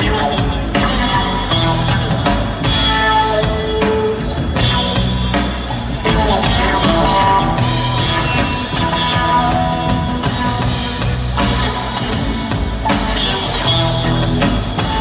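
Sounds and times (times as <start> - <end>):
live rock trio playing: 0.0 - 15.0.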